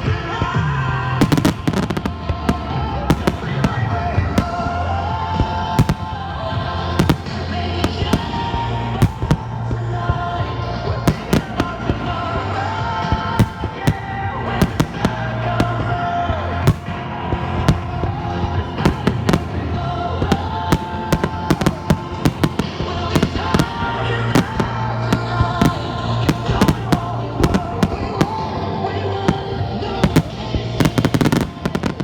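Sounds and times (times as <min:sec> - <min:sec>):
fireworks bursting: 0:00.0 - 0:32.0
music playing: 0:00.0 - 0:32.0.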